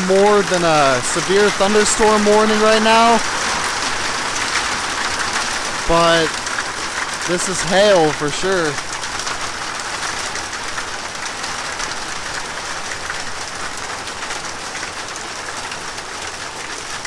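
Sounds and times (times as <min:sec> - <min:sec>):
rain and hail on metal roof: 0:00.0 - 0:17.0.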